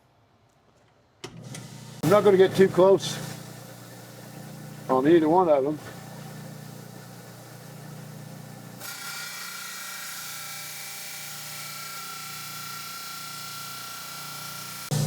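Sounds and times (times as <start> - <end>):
saw cutting stone: 1.6 - 15.0.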